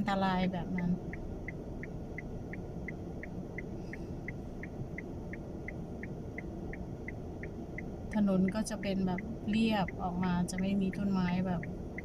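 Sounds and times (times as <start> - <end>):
car driving rumble: 0.0 - 12.0
turn signal ticking: 0.0 - 12.0.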